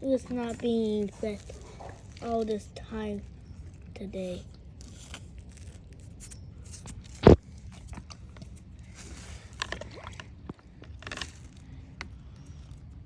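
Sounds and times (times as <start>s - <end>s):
plastic scraping and rustling: 0.0s - 13.0s.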